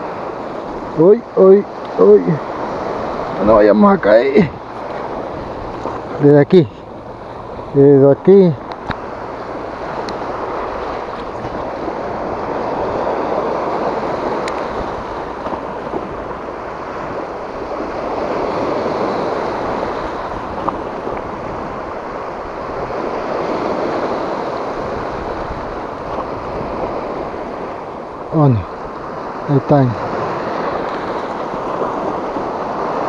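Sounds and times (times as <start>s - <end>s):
waves breaking on rocks: 0.0s - 33.0s
wind on microphone: 4.4s - 33.0s.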